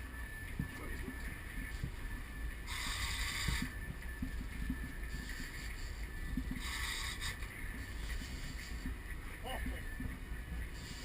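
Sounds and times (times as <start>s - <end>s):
boat engine low rumble: 0.0s - 11.0s.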